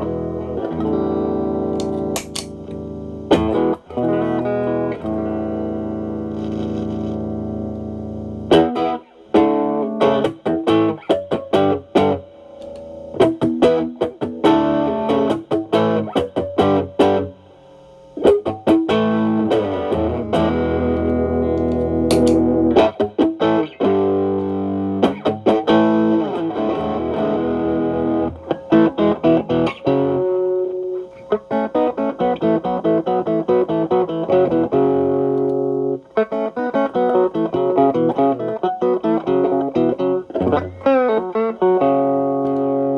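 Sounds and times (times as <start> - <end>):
overdriven electric guitar: 0.0 - 42.9.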